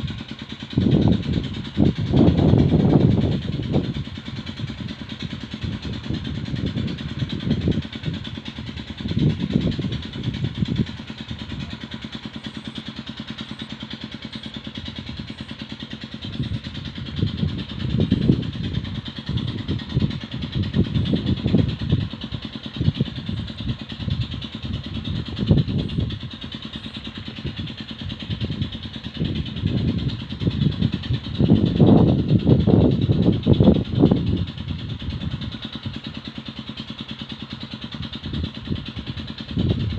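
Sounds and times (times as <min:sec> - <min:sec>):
engine running with rapid pulse: 0:00.0 - 0:39.9.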